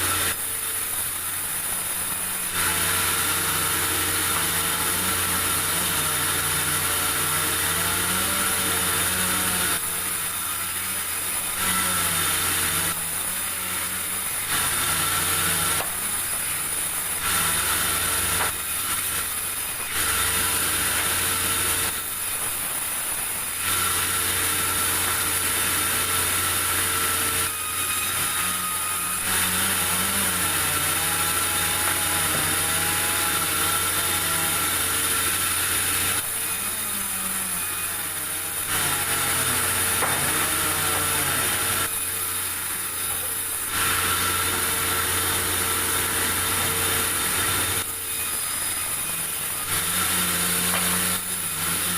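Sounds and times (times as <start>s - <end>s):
saw hissing through log: 0.0s - 51.9s
sawmill saw droning: 0.0s - 51.9s.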